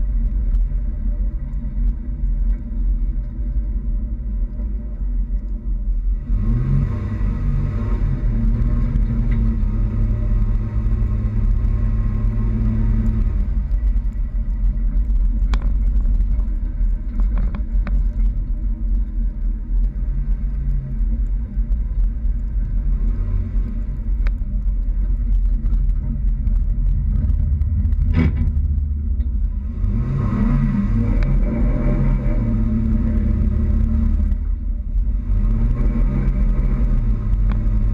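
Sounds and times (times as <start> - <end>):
pickup truck engine and road rumble: 0.0 - 37.9.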